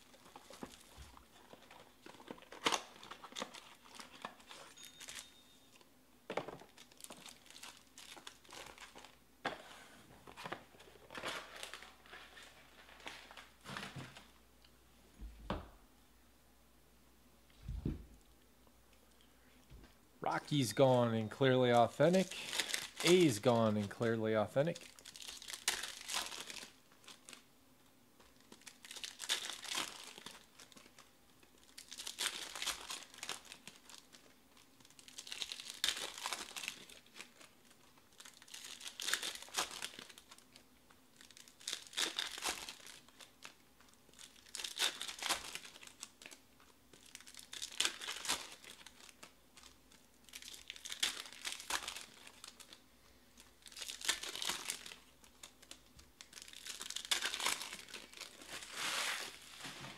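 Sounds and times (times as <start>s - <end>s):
foil wrappers crinkling and tearing: 0.0s - 5.3s, 6.4s - 9.2s, 10.2s - 14.3s, 20.5s - 27.5s, 28.2s - 59.9s.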